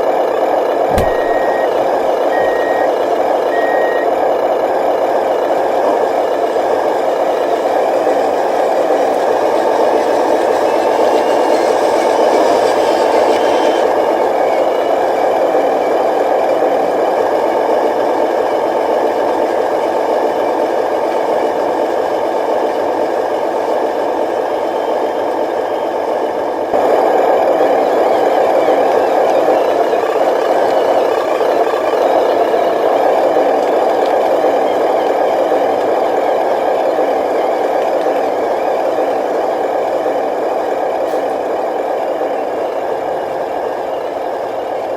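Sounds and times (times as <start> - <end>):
model truck engine-like idle: 0.0 - 44.9.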